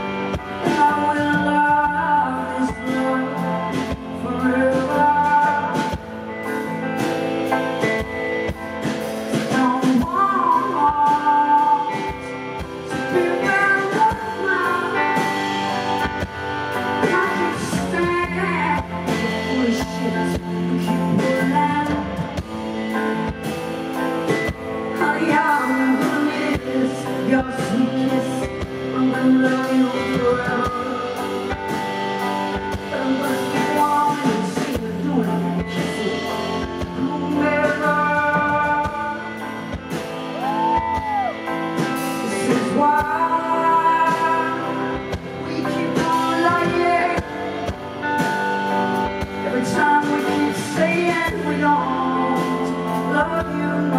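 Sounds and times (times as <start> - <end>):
woman singing: 0.0 - 7.0, 9.3 - 23.4, 24.9 - 53.9
live band playing: 0.0 - 53.9.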